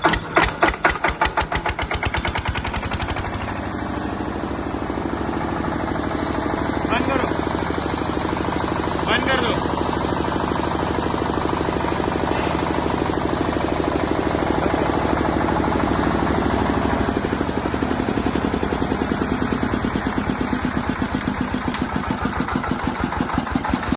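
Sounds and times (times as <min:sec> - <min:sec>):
diesel generator chugging: 0:00.0 - 0:23.9.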